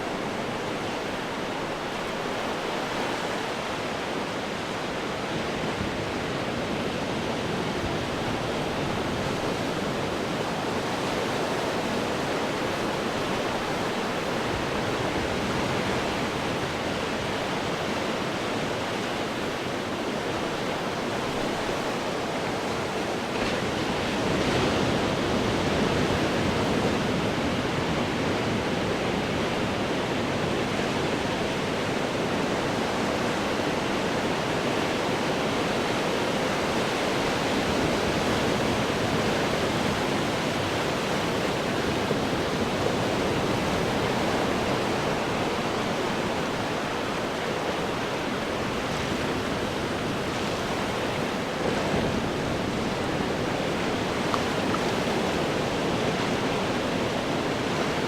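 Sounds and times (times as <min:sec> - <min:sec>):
ocean surf breaking against rocks: 0:00.0 - 0:58.0.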